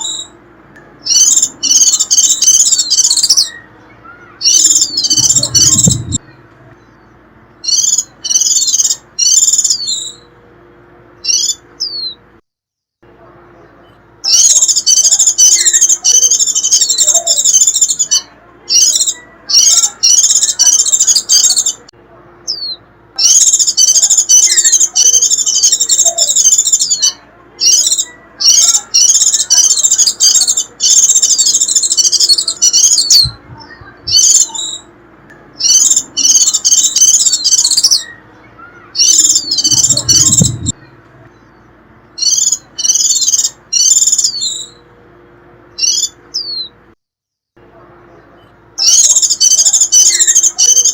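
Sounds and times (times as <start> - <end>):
birds shrill chattering calls: 0.0 - 10.4, 11.1 - 12.3, 13.6 - 44.9, 45.7 - 46.8, 48.0 - 50.9.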